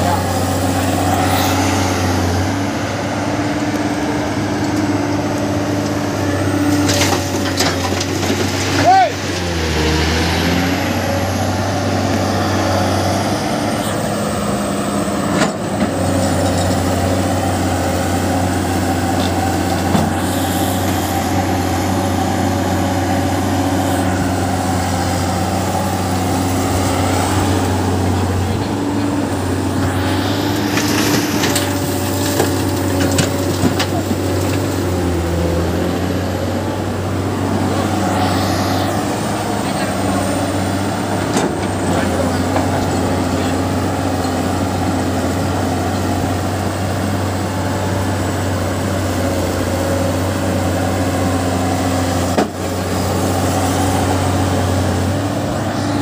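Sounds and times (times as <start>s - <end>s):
heavy diesel machinery humming: 0.0s - 56.0s.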